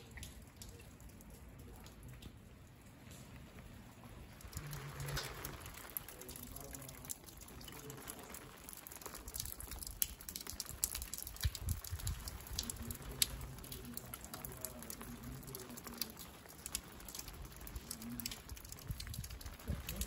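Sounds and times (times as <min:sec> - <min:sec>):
rain pattering on stone: 0:00.0 - 0:20.0.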